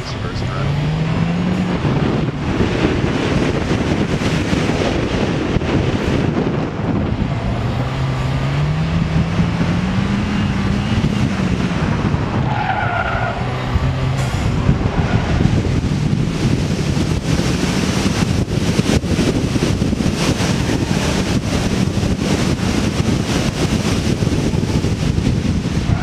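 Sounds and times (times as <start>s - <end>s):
car engine under hard driving: 0.0s - 26.0s
tyre and road noise: 0.0s - 26.0s.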